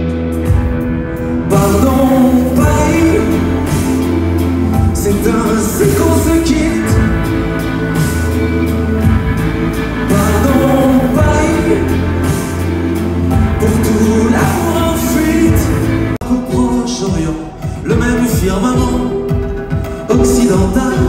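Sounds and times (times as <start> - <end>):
live band playing: 0.0 - 21.0
sustained bass notes: 0.0 - 21.0.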